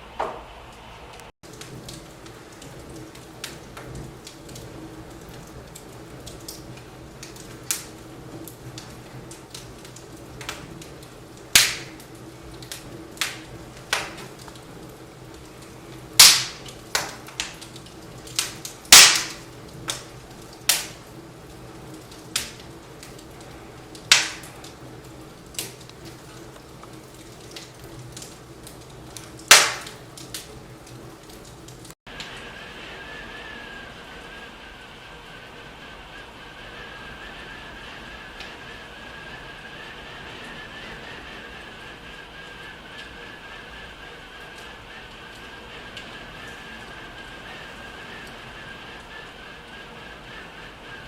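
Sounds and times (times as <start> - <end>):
firewood crackling and popping: 0.2 - 51.0.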